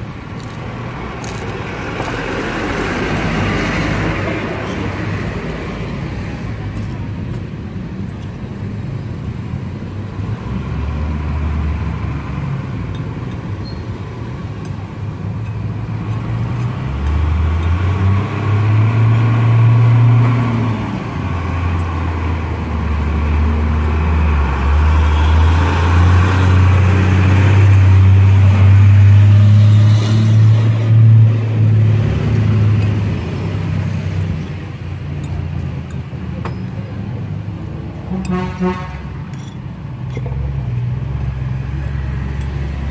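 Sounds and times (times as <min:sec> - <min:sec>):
cars passing: 0:00.0 - 0:42.9
diesel truck engine drone: 0:00.0 - 0:42.9.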